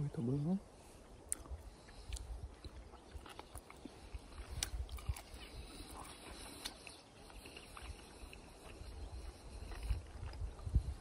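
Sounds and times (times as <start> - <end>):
chewing with wet mouth clicks: 1.2 - 11.0.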